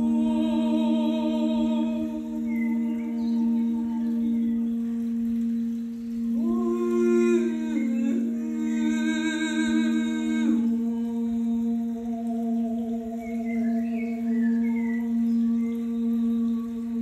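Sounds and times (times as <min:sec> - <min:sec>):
crystal singing bowl ringing: 0:00.0 - 0:17.0.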